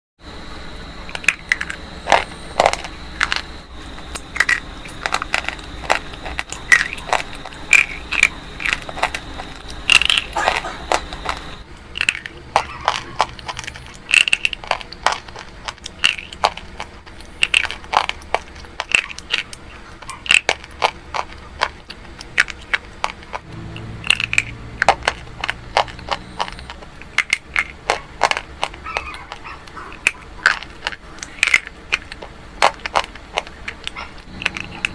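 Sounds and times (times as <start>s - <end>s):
brittle material crunching: 1.0s - 34.9s.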